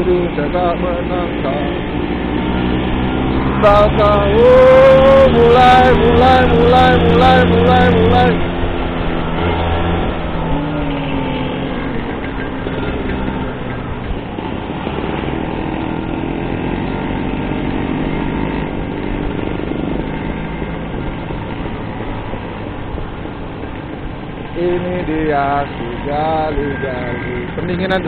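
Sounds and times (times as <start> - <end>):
scooter engine speeding up: 0.0 - 28.0
wind and road noise: 0.0 - 28.0.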